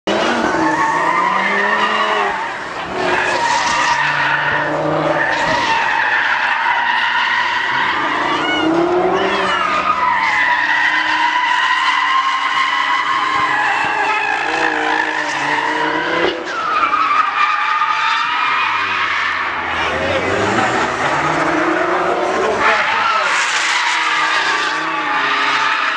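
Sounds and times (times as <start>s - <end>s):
car engine revving: 0.0s - 25.9s
tyres squealing: 0.3s - 21.8s.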